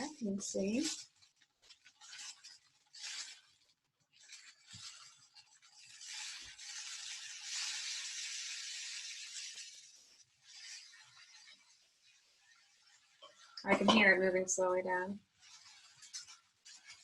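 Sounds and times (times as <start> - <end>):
rice trickling through rain stick: 0.0 - 13.7, 15.2 - 17.0.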